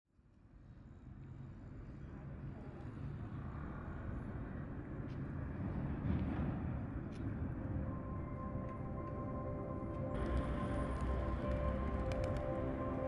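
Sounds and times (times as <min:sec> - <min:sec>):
rumble of passing cars: 0:00.2 - 0:13.0.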